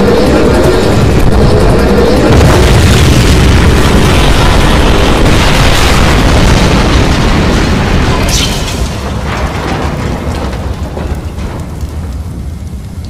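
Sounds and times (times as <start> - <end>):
booming explosion rumble: 0.0 - 13.0.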